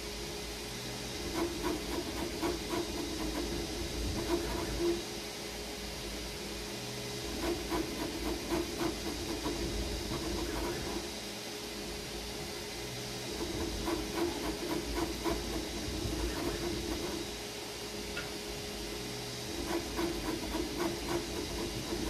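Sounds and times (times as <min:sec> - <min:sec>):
stepper motor hum: 0:00.0 - 0:05.3, 0:06.0 - 0:11.2, 0:11.8 - 0:22.0
fans hissing: 0:00.0 - 0:22.0.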